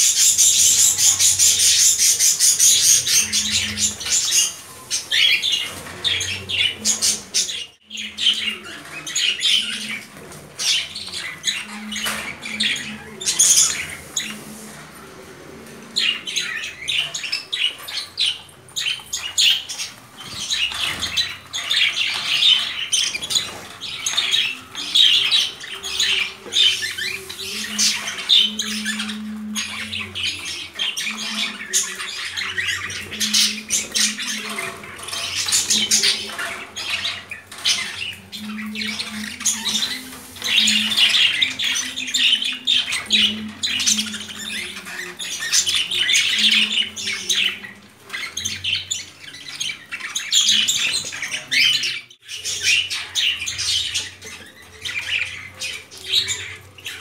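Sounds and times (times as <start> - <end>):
birds chattering and squawking: 0.0 - 57.0.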